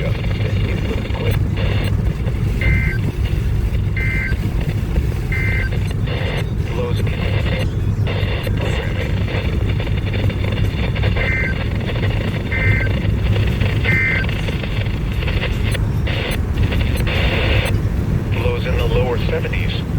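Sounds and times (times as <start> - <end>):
buzzy two-tone data bursts: 0.0 - 19.7
low hum: 0.0 - 19.9
radio static: 0.0 - 19.9.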